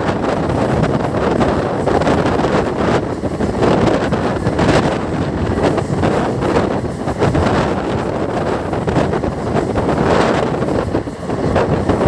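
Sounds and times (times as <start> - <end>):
train coach running on track: 0.0 - 12.0
wind buffeting microphone: 0.0 - 12.0.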